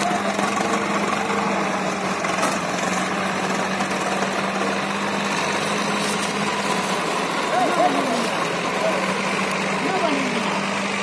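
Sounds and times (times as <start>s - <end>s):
tractor diesel engines under load: 0.0s - 11.0s.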